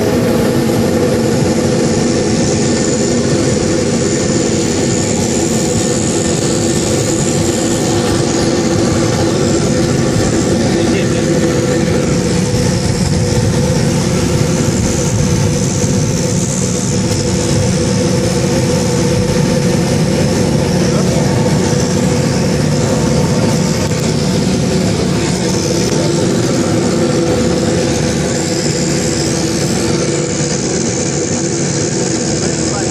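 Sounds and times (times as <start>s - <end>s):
turboprop engines from cabin: 0.0s - 32.9s.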